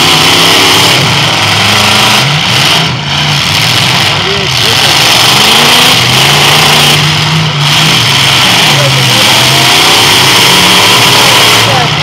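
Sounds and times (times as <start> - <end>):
car engines revving loudly: 0.0 - 12.0.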